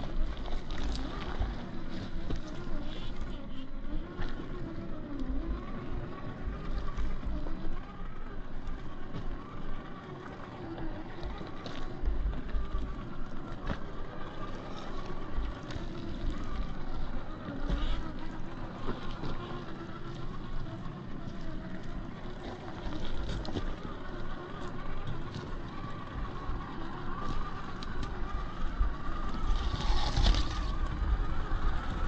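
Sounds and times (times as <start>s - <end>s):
electric motor whining: 0.0s - 32.0s
wind rumbling on microphone: 0.0s - 32.0s.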